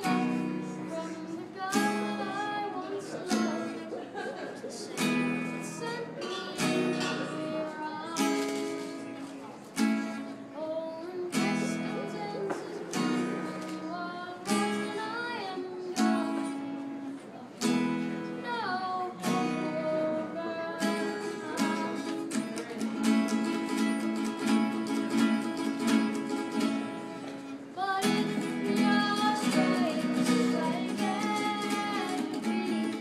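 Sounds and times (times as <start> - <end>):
boy singing: 0.0 - 3.9, 5.4 - 9.0, 10.5 - 17.2, 18.4 - 26.6, 27.8 - 33.0
acoustic guitar strumming: 0.0 - 4.1, 4.8 - 33.0.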